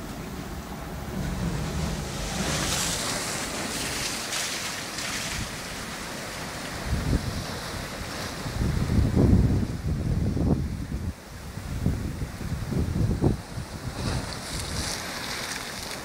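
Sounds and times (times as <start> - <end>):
sea waves washing on beach: 0.0 - 16.0
wind buffeting microphone: 0.0 - 16.0.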